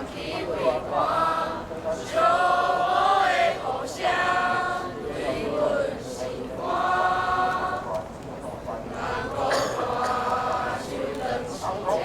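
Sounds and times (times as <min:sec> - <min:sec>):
choir singing: 0:00.0 - 0:07.9, 0:08.9 - 0:12.0.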